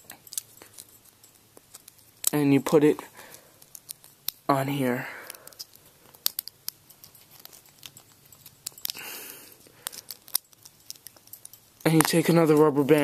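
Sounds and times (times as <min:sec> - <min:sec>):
soft rustle: 0:00.0 - 0:13.0.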